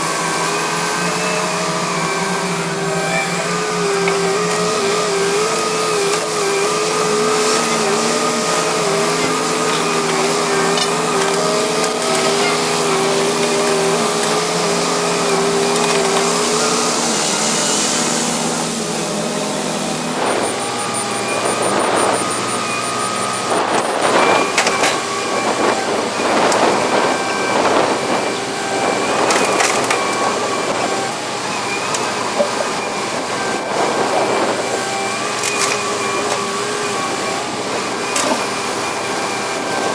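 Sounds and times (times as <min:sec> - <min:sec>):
excavator engine and hydraulics whine: 0:00.0 - 0:39.9.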